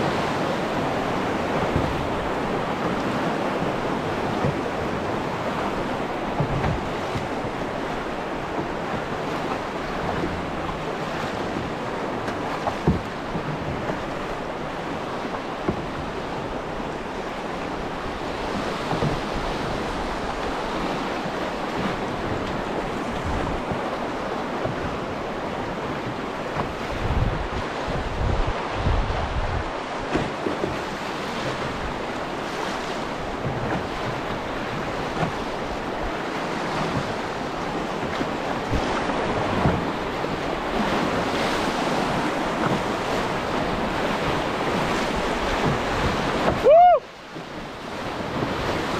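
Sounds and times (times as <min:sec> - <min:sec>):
river rushing: 0:00.0 - 0:48.9
wind buffeting microphone: 0:00.0 - 0:48.9.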